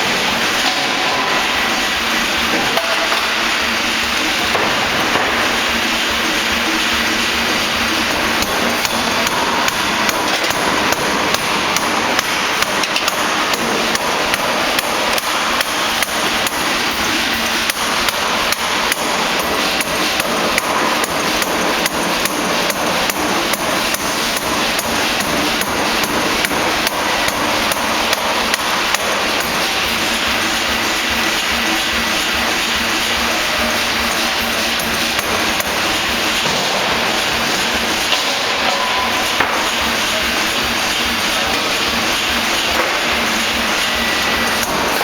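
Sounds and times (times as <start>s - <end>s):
air hammer striking: 0.0s - 45.0s
machine running noise: 0.0s - 45.0s.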